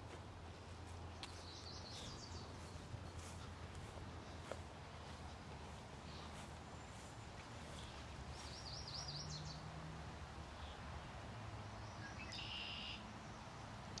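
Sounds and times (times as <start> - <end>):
songbirds singing: 0.0 - 14.0.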